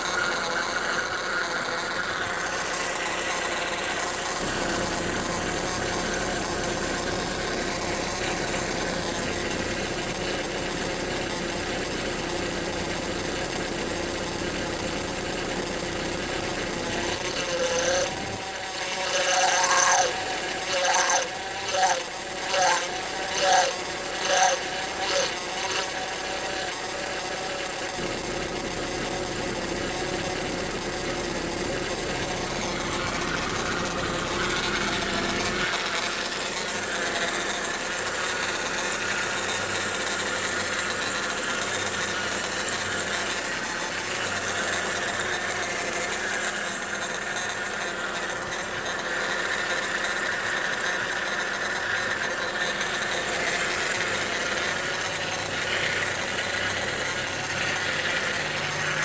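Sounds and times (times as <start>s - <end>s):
car engine idling: 0.0s - 18.9s, 21.4s - 59.0s
mechanical whine from engine: 0.0s - 59.0s.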